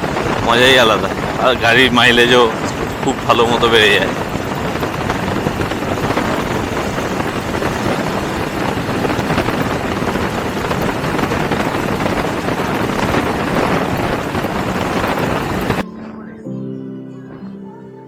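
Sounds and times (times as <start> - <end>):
motorcycle road noise: 0.0 - 15.8
wind rush on microphone: 0.0 - 15.8.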